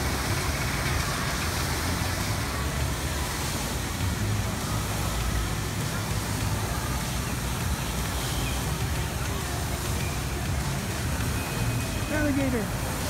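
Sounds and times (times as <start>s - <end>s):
even hiss: 0.0s - 13.0s
low unsteady rumble: 0.0s - 13.0s.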